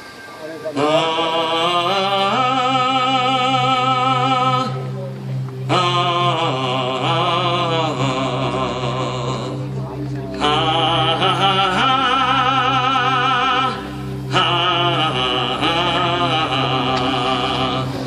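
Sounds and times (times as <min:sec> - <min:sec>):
low musical accompaniment: 0:00.0 - 0:18.0
person singing with vibrato: 0:00.4 - 0:18.0.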